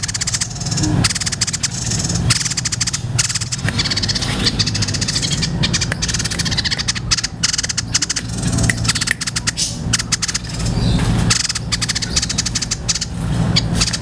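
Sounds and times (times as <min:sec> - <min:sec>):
bird singing rattling trills: 0:00.0 - 0:14.0
low steady hum: 0:00.0 - 0:14.0.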